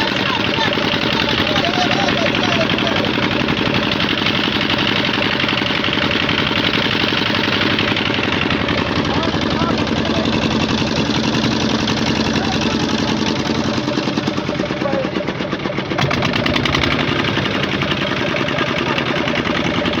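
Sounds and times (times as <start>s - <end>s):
engine running with rapid knocking: 0.0s - 20.0s.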